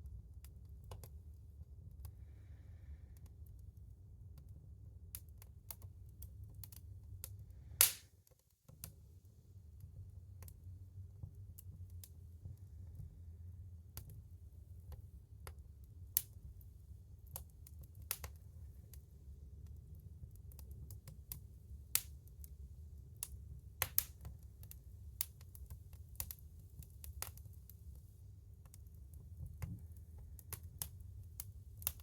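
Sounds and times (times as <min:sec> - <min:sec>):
wood fire crackling and popping: 0:00.0 - 0:02.2, 0:03.1 - 0:09.0, 0:09.7 - 0:32.0.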